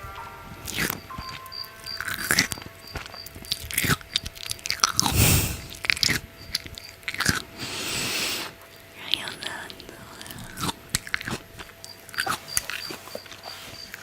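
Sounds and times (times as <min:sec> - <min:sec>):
crunchy chewing of food: 0:00.2 - 0:14.0.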